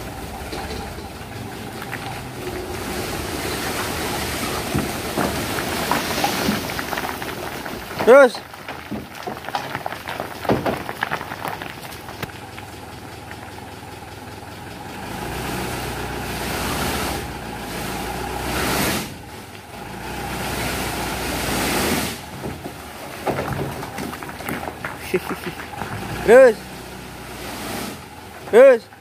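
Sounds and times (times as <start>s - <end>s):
stones clattering off truck bed: 0.0s - 13.6s, 18.4s - 29.0s
truck engine revving: 0.0s - 29.0s.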